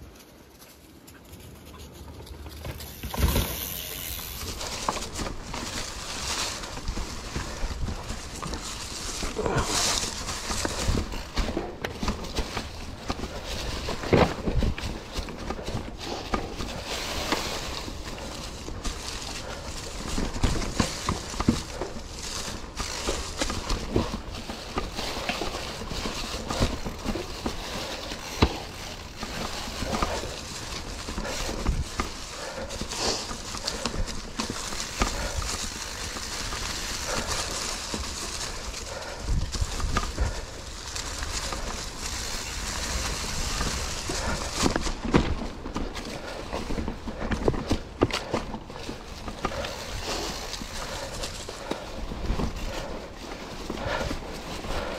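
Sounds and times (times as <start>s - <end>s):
bike clattering over rocks: 2.5s - 53.0s.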